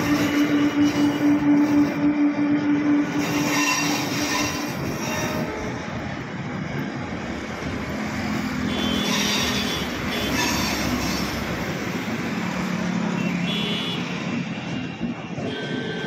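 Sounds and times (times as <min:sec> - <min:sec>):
train rumbling: 0:00.0 - 0:16.0
urban traffic noise: 0:00.0 - 0:16.0.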